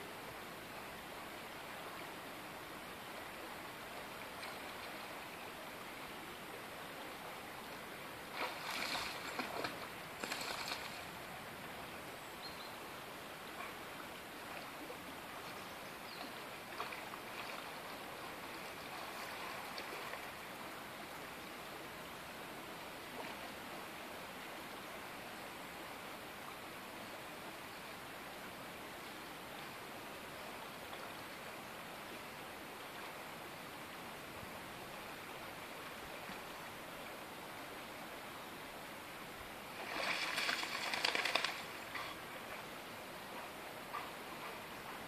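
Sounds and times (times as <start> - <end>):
river flowing over stones: 0.0 - 45.0.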